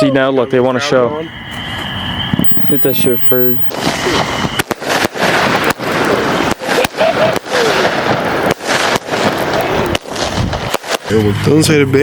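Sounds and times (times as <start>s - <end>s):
firework hissing crackle: 0.8s - 11.8s.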